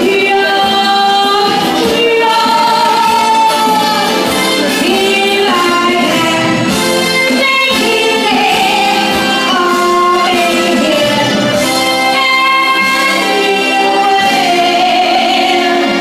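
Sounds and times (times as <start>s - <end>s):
musical accompaniment: 0.0s - 16.0s
woman singing: 0.0s - 16.0s.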